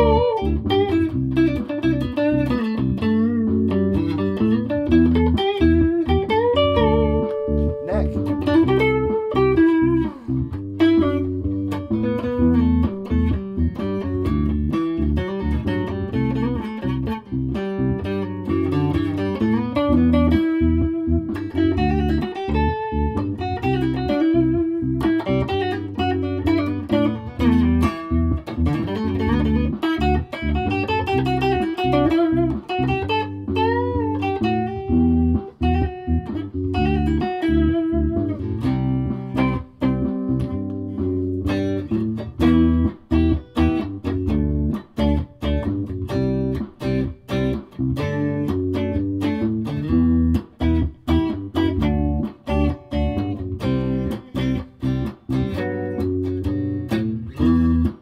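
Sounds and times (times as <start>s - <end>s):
electric guitar lines: 0.0s - 58.0s
low bass part: 0.0s - 58.0s.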